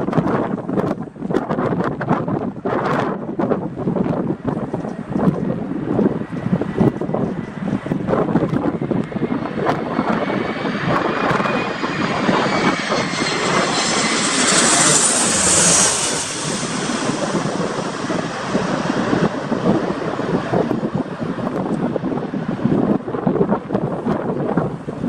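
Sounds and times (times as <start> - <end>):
jet engines passing close: 0.0 - 25.0
wind buffeting microphone: 0.0 - 25.0.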